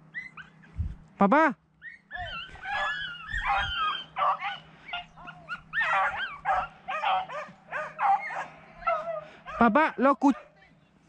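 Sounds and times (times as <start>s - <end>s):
beagles baying: 1.8s - 10.7s.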